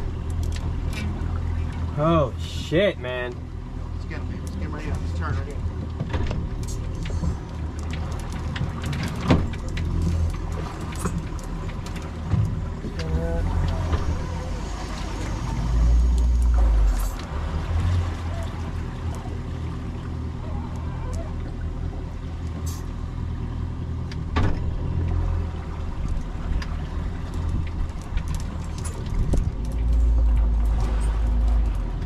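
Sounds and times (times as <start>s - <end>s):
boat engine idling: 0.0s - 32.0s.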